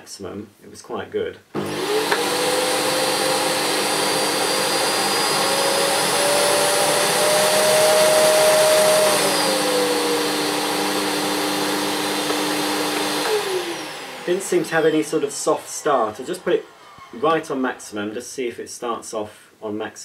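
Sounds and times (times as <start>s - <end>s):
vacuum cleaner motor running: 1.6s - 17.8s.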